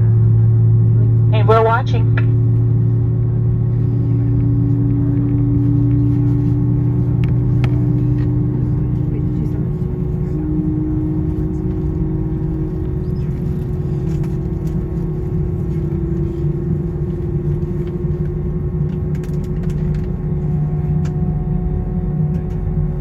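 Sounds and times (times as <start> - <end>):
jet engine rumble in cabin: 0.0 - 23.0
low hum: 0.0 - 23.0.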